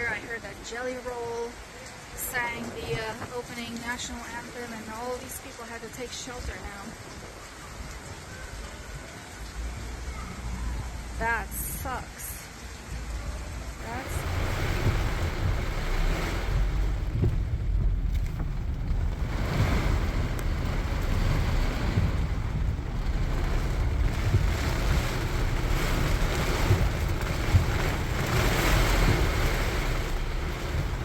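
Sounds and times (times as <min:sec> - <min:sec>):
heavy rain on a car: 0:00.0 - 0:31.0
tyres rumbling on wet road: 0:00.0 - 0:31.0.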